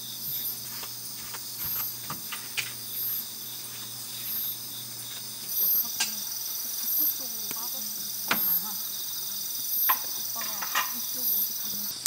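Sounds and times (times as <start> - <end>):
high cricket chirp: 0.0 - 12.0
insects trilling: 0.0 - 12.0.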